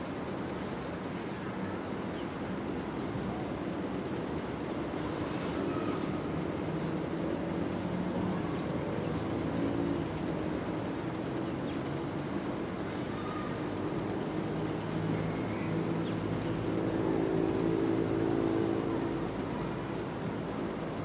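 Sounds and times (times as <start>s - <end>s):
distant engines droning: 0.0s - 21.0s.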